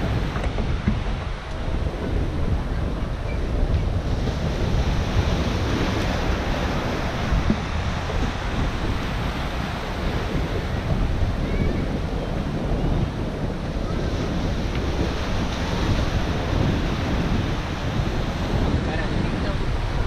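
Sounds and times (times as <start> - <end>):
surf breaking over rocks: 0.0 - 20.0
wind buffeting microphone: 0.0 - 20.0.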